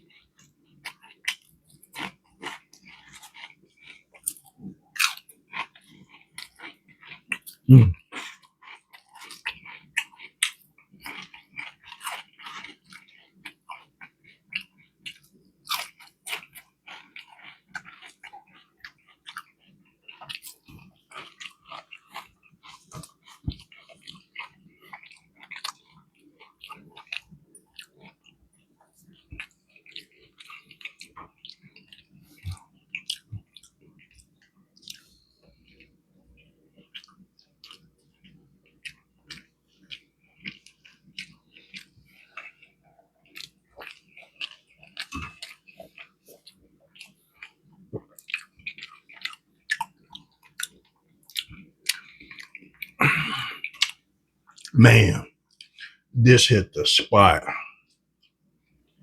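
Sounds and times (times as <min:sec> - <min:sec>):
chewing crunchy food: 0:00.0 - 0:56.1, 0:57.2 - 0:59.0.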